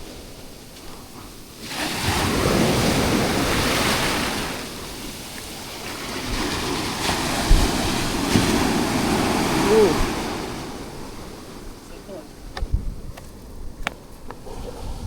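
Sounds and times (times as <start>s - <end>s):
sea waves breaking on beach: 0.0s - 12.5s
wind on microphone: 0.0s - 15.0s.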